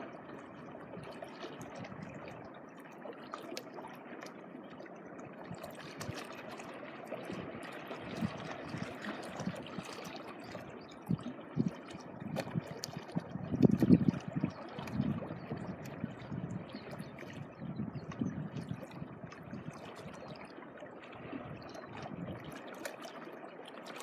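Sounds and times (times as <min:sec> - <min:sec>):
small waves lapping on shore: 0:00.0 - 0:24.0.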